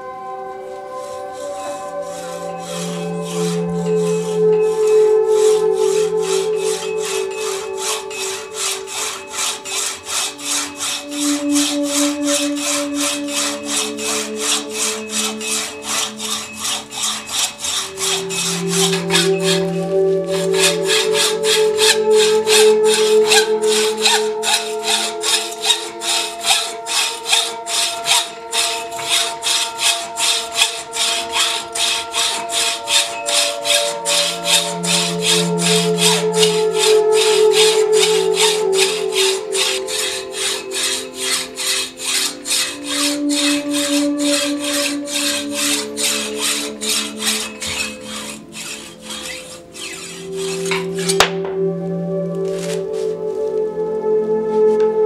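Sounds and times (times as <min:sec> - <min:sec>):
hacksaw rasping strokes: 0:00.8 - 0:51.5, 0:52.4 - 0:53.2.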